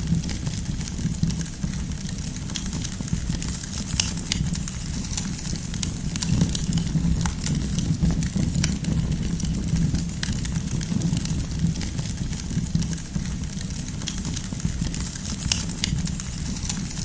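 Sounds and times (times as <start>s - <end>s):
firewood crackling: 0.0s - 17.0s
low rumble of flames: 0.0s - 17.0s.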